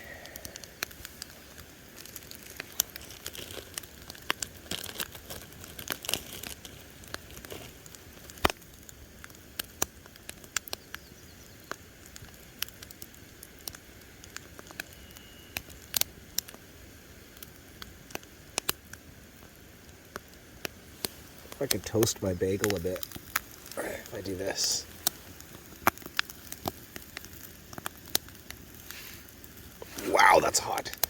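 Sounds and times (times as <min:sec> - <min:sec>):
campfire crackling and popping: 0:00.0 - 0:31.0
faint steady hiss: 0:00.0 - 0:31.0.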